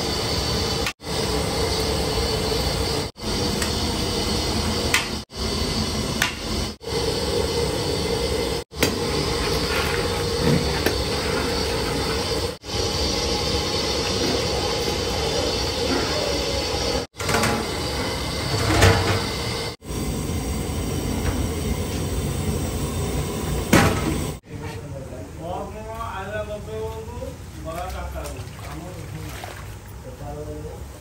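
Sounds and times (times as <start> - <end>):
gas burner roaring: 0.0 - 28.1.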